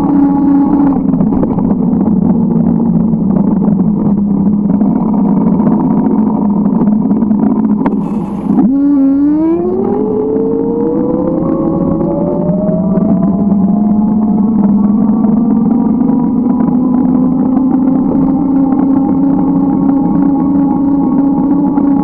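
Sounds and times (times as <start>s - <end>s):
vehicle engine speeding up: 0.0s - 22.0s
wind and road noise: 0.0s - 22.0s.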